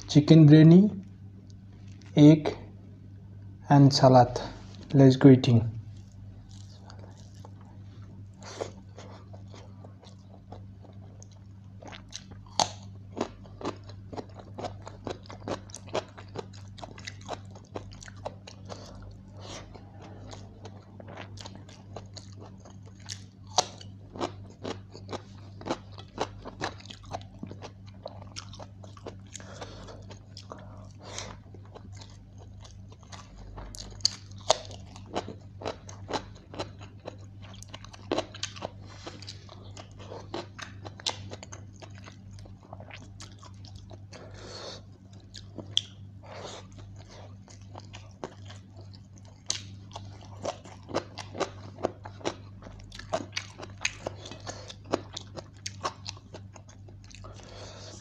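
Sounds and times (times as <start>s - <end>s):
crunchy chewing: 5.9s - 58.0s.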